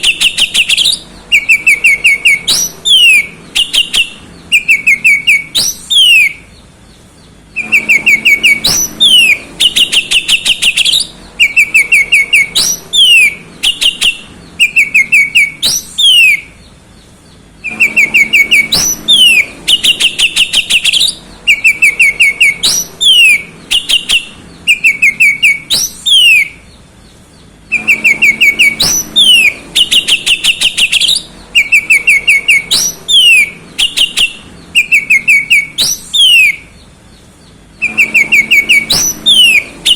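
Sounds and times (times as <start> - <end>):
bird singing whistled phrases: 0.0 - 6.5, 7.5 - 16.6, 17.6 - 26.6, 27.7 - 36.8, 37.8 - 39.9.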